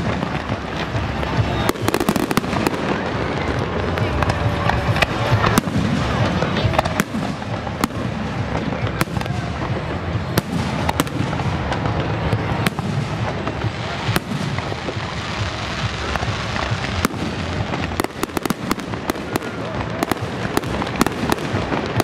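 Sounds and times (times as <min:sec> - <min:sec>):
fireworks dense noise: 0:00.0 - 0:22.0
sharp firework cracks: 0:00.0 - 0:22.0.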